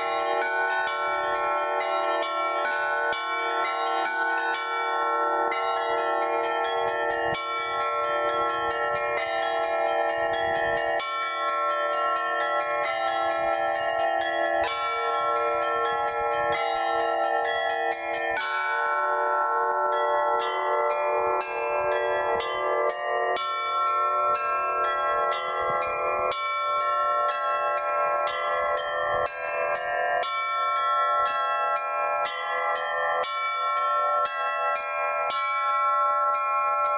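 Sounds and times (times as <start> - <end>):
large bells ringing: 0.0 - 36.9
small church bells striking: 0.0 - 36.9.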